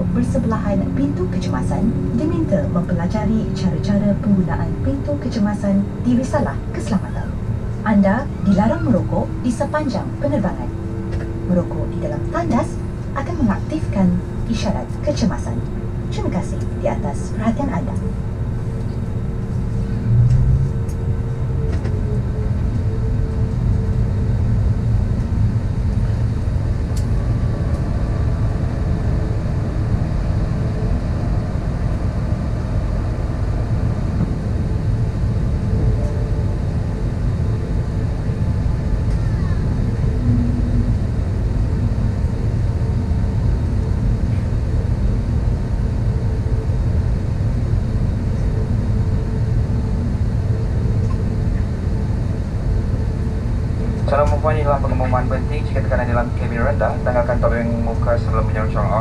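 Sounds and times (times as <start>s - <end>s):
aircraft cabin rumble: 0.0s - 59.0s
faint steady tones: 0.0s - 59.0s.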